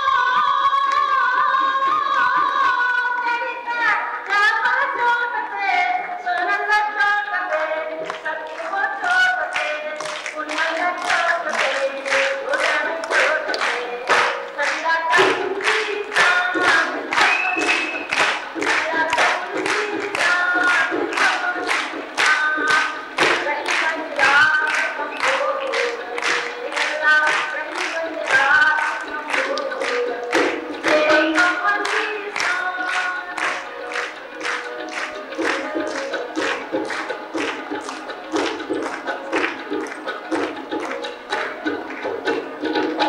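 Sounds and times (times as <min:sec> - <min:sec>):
person singing folk song: 0:00.0 - 0:39.3
hand-clapping beat: 0:00.3 - 0:05.6, 0:07.4 - 0:43.0.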